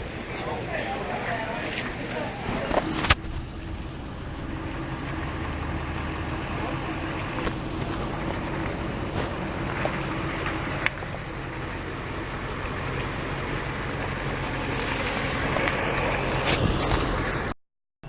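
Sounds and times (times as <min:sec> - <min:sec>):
road noise: 0:00.0 - 0:17.6
vehicle engine: 0:00.0 - 0:17.6
wind: 0:00.0 - 0:17.6.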